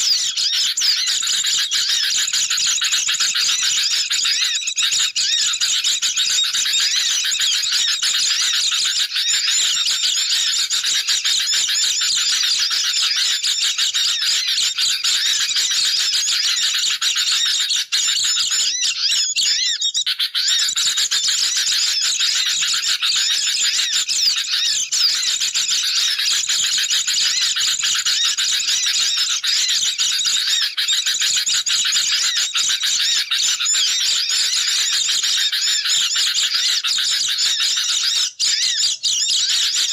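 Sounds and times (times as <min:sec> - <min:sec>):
chorus of bird calls: 0:00.0 - 0:39.9.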